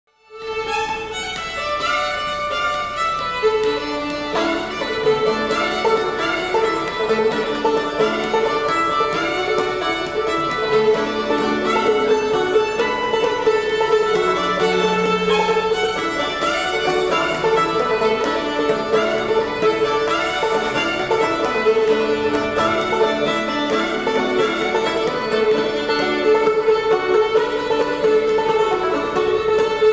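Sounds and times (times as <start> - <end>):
bowed fiddle melody: 0.1 - 29.9
banjo picking: 0.3 - 29.9.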